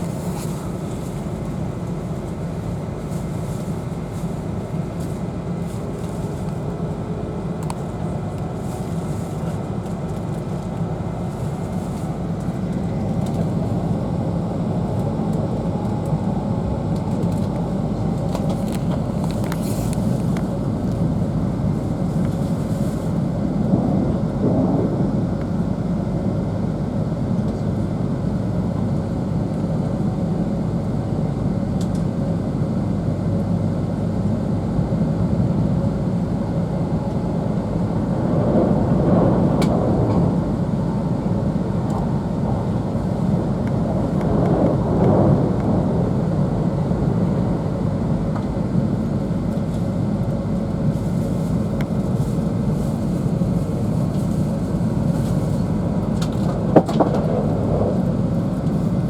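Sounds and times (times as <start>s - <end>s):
train cabin low rumble: 0.0s - 59.0s.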